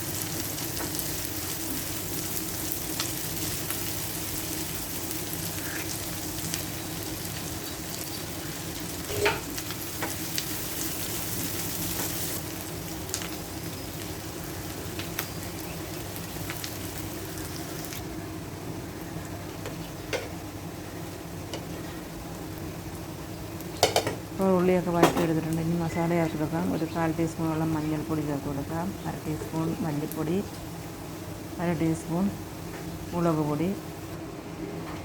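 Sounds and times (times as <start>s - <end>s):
shallots sizzling in oil: 0.0s - 34.2s.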